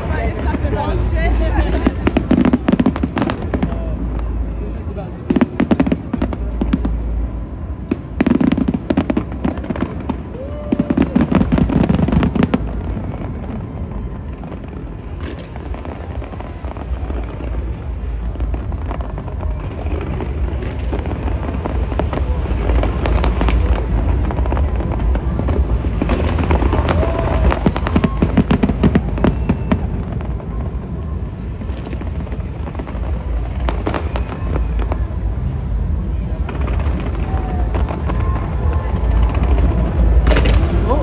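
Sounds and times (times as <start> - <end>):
continuous low rumble: 0.0 - 41.0
fireworks bangs and crackling: 0.0 - 41.0.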